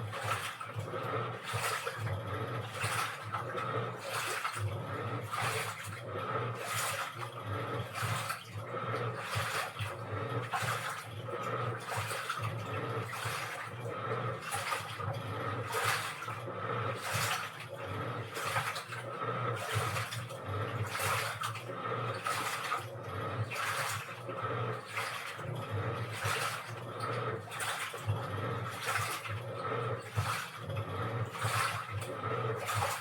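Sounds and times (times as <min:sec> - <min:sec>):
low motor hum: 0:00.0 - 0:33.0
water sloshing in washing machine: 0:00.0 - 0:33.0.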